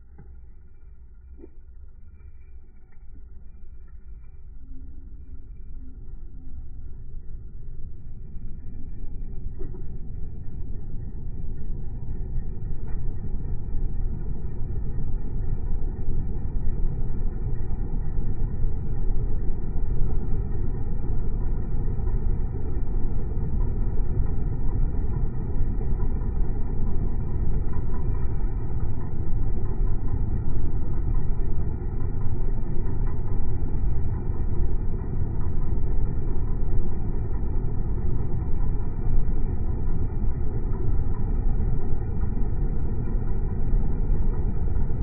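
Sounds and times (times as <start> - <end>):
heater fan running: 0.0 - 45.0.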